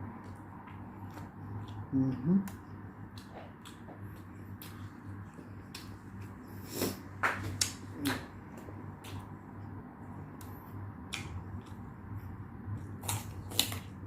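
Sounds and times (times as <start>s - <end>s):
steady low hum: 0.0s - 14.0s
chewing with mouth smacks: 0.1s - 14.0s.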